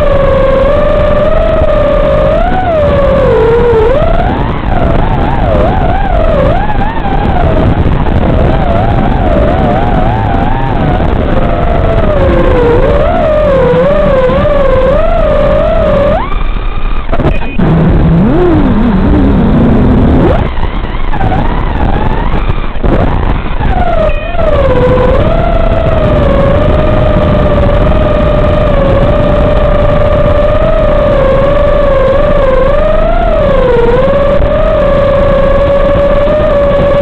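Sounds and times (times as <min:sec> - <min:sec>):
quadcopter motors whining: 0:00.0 - 0:37.0.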